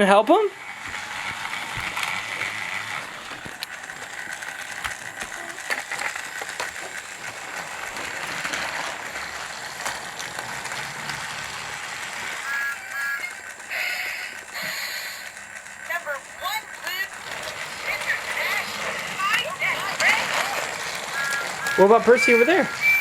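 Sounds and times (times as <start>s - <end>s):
toy train motor whir: 0.0s - 23.0s
wheels clicking on track: 0.0s - 23.0s.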